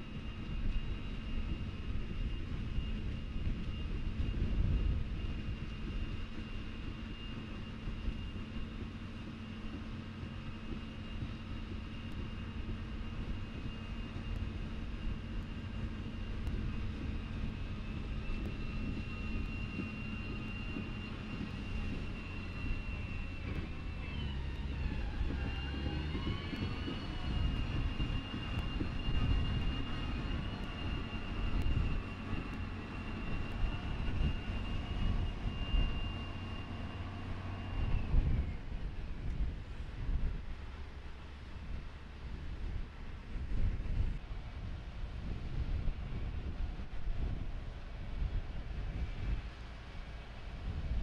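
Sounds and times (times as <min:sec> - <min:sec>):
low engine rumble: 0:00.0 - 0:51.0
steady high whine: 0:00.0 - 0:51.0.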